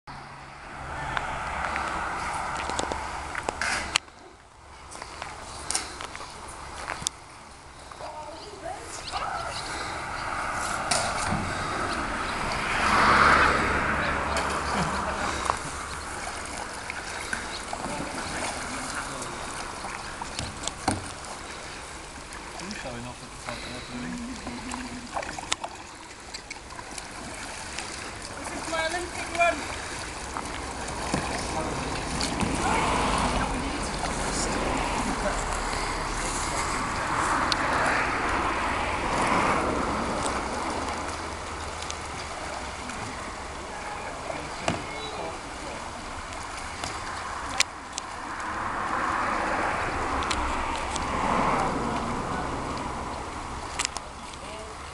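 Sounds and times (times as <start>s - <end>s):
paddles splashing in water: 0.2s - 54.9s
water trickling off paddles: 0.2s - 54.9s.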